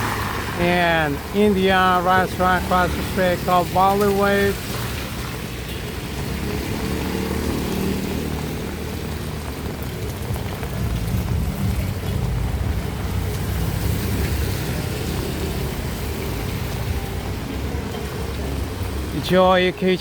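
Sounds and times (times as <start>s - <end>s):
street traffic rumbling: 0.0s - 20.0s.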